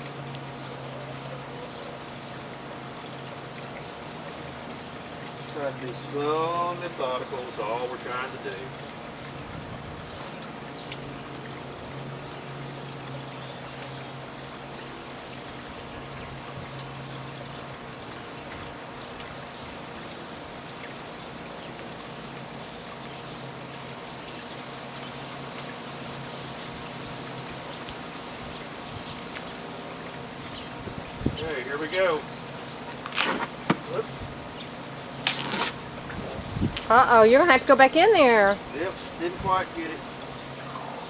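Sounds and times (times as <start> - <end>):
fountain water trickling: 0.0 - 41.0
low steady hum: 0.0 - 41.0.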